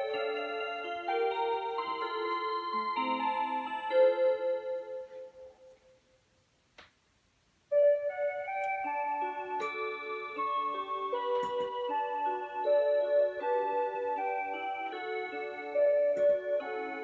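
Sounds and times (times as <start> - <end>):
wall clock electronic melody: 0.0 - 6.1, 7.7 - 17.0.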